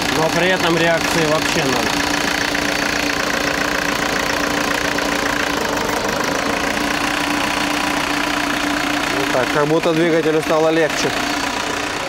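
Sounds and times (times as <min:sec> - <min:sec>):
diesel engine idling with a knock: 0:00.0 - 0:12.0.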